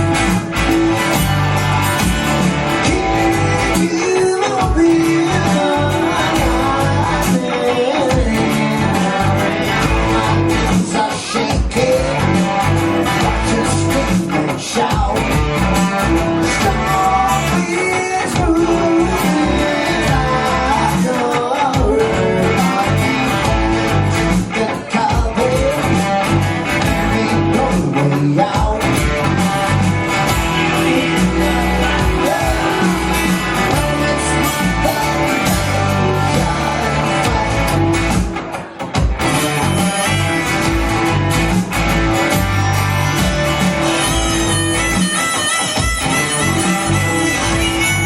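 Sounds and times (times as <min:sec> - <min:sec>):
rock song with guitar: 0:00.0 - 0:48.0
person singing: 0:02.0 - 0:41.2, 0:43.0 - 0:48.0.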